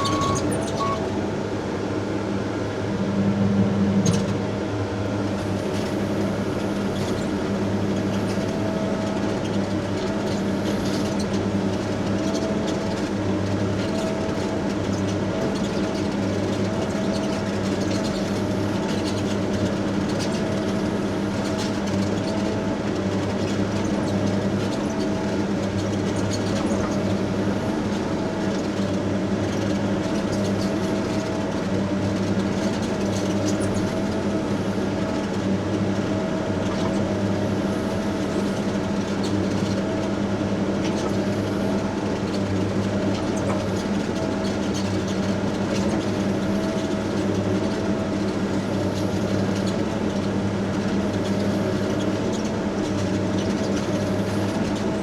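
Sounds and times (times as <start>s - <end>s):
excavator diesel engine working: 0.0s - 55.0s.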